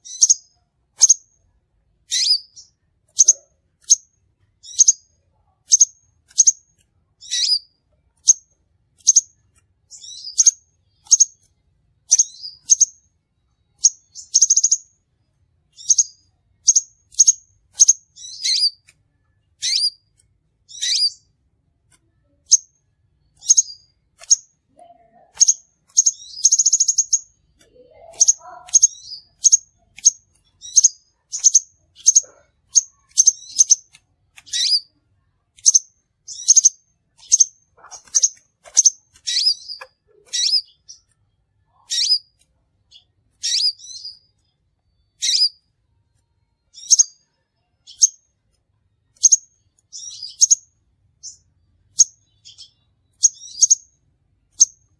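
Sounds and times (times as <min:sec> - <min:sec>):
buzzy bird trill: 0:00.0 - 0:01.3, 0:02.1 - 0:13.0, 0:13.8 - 0:14.9, 0:15.7 - 0:18.9, 0:19.6 - 0:21.3, 0:22.2 - 0:35.0, 0:35.6 - 0:45.7, 0:46.6 - 0:48.3, 0:49.1 - 0:53.9
bird chirps: 0:00.0 - 0:15.1, 0:15.7 - 0:54.9.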